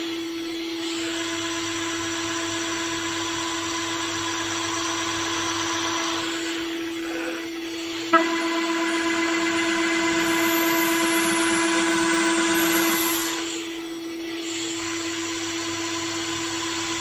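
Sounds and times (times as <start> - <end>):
machine spindle whining: 3.0 - 17.0.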